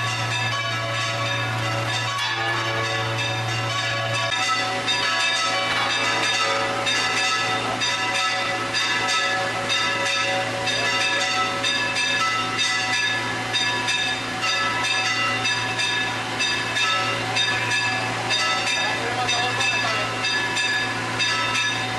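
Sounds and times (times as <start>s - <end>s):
church bells pealing: 0.0s - 21.9s.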